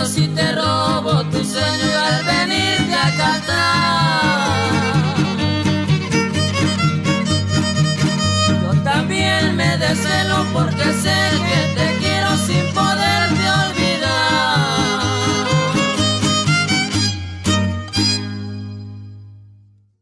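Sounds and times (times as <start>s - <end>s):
violin melody with vibrato: 0.0s - 19.1s
strummed guitar rhythm: 0.0s - 19.6s
bass guitar: 0.0s - 20.0s.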